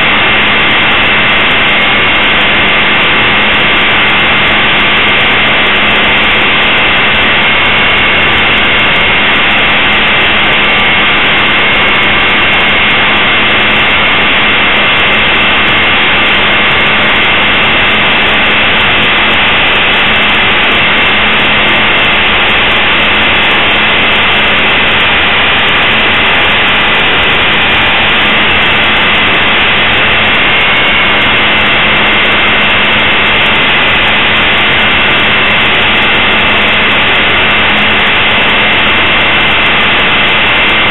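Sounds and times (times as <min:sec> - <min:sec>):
rotor rush of noise: 0:00.0 - 0:40.9.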